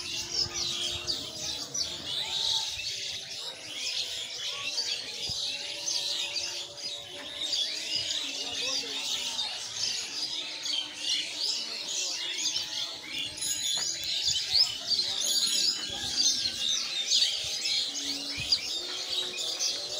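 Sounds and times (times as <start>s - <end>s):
birds chirping and singing: 0.0s - 19.9s.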